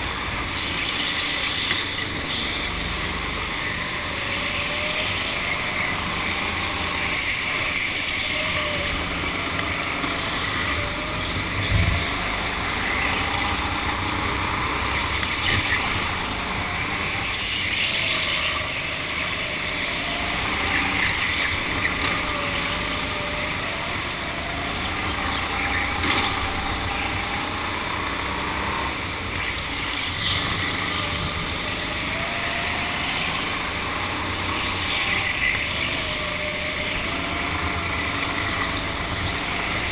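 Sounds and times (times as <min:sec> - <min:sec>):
go-kart motor running: 0:00.0 - 0:39.9
steady rushing noise: 0:00.0 - 0:39.9.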